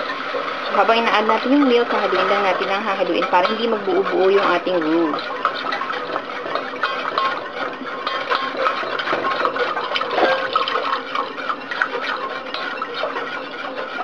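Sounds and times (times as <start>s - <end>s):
liquid sloshing: 0.0s - 14.0s
whisk scraping steel saucepan: 0.0s - 14.0s.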